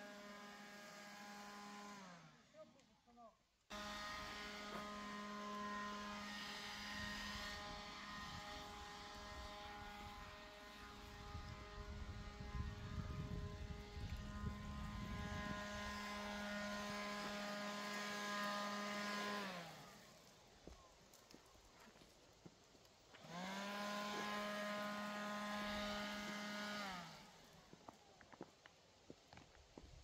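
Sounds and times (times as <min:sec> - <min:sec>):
leaf blower whining: 0:00.0 - 0:02.9, 0:03.7 - 0:28.5.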